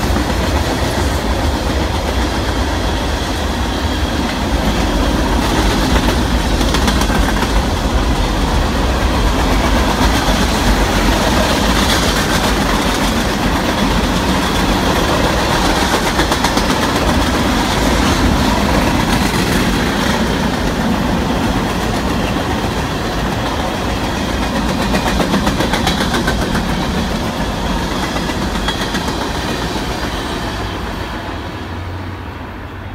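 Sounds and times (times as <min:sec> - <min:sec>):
freight train wheels on rail: 0:00.0 - 0:32.9.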